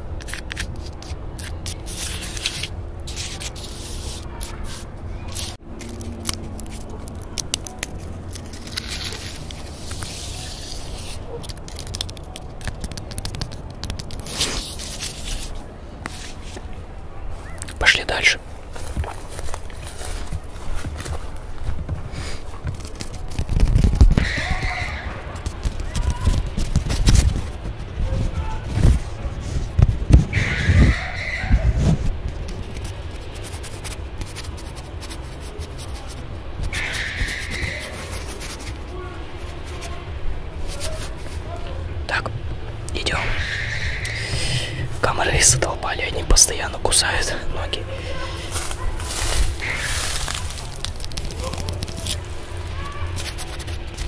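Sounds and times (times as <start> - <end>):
leaves rustling and crackling: 0.0 - 54.0
fingers scratching bark: 0.2 - 16.6, 22.2 - 28.2, 30.2 - 42.3, 42.9 - 54.0.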